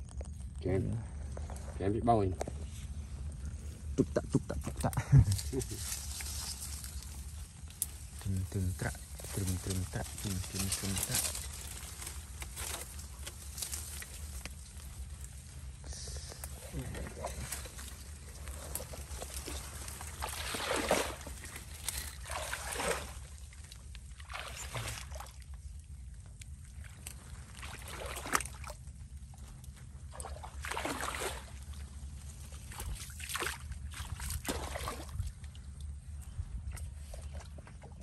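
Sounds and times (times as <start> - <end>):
footsteps squelching through mud: 2.4 - 38.0.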